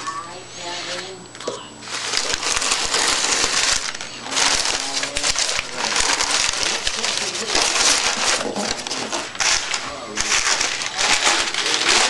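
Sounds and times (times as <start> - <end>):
newspaper rustling and crackling: 1.8 - 12.0.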